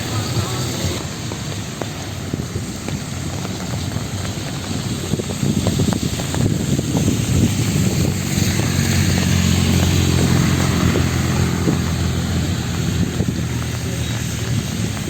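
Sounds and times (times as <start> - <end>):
vehicle engine running close: 0.0 - 15.0.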